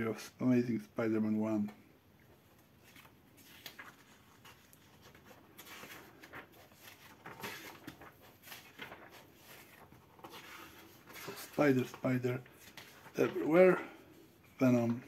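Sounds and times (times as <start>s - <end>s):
pages turning: 2.4s - 15.0s.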